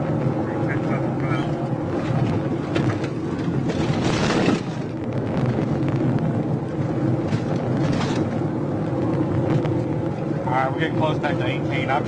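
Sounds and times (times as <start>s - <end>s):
car engine at high speed: 0.0s - 12.0s
road noise: 0.0s - 12.0s
rush of wind: 0.0s - 12.0s.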